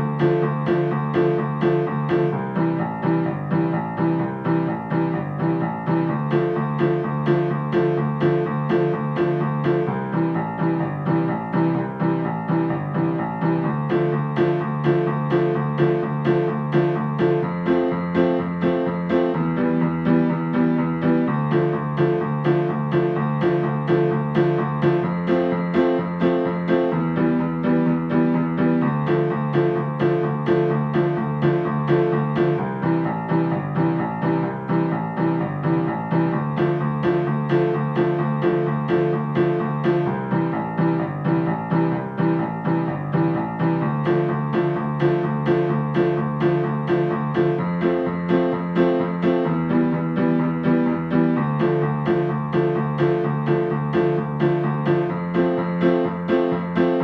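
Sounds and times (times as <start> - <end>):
keyboard music repeating pattern: 0.0 - 57.0.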